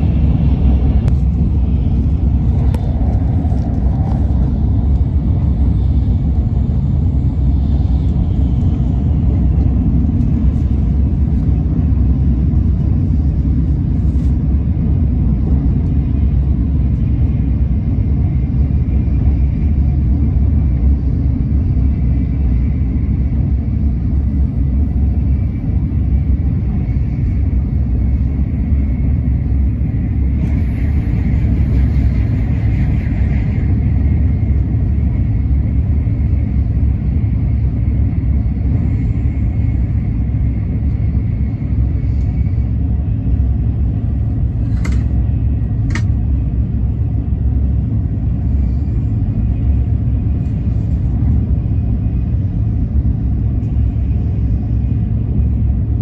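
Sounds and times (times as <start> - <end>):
high-speed train cabin rumble: 0.0 - 56.0.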